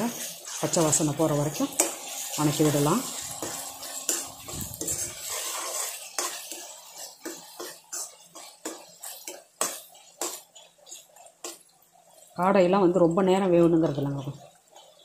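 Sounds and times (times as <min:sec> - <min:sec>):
ladle scraping and knocking pan: 0:00.0 - 0:12.3, 0:14.4 - 0:15.0.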